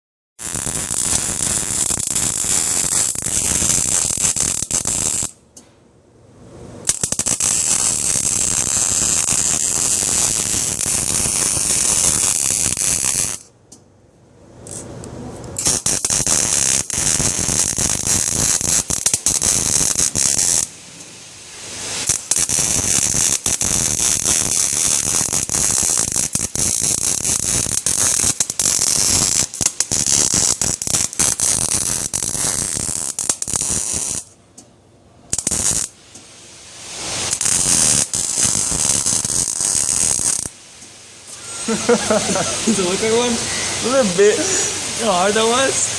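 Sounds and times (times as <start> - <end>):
arc welding crackling: 0.4 - 5.4, 6.8 - 13.5, 14.6 - 20.8, 21.6 - 34.7, 35.3 - 45.9.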